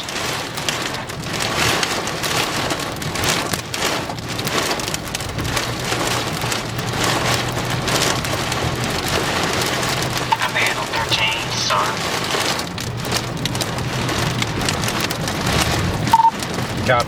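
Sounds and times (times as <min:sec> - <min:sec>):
heavy rain on vehicle roof: 0:00.0 - 0:17.0
road noise: 0:00.0 - 0:17.0.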